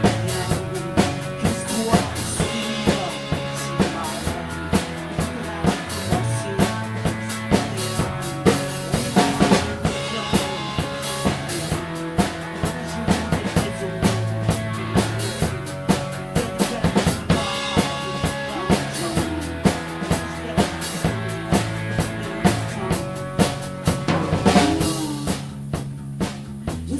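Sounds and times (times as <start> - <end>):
drum kit beat: 0.0 - 26.9
instrumental band music: 0.0 - 26.9.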